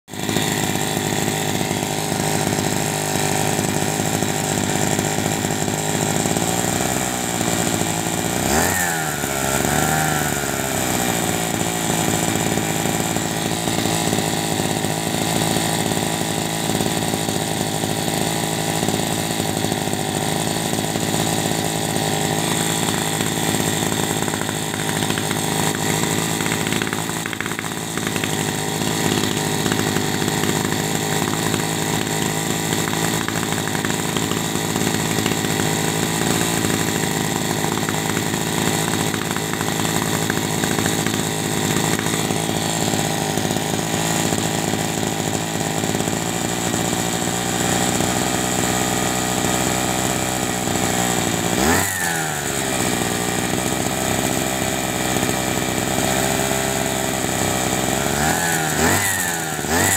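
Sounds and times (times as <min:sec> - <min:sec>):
two-stroke pump engine buzzing: 0:00.0 - 0:59.9.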